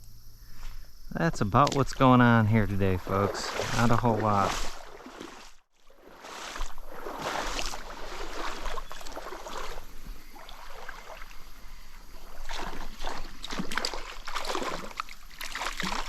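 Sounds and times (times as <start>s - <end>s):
stream water splashing: 1.3s - 16.0s.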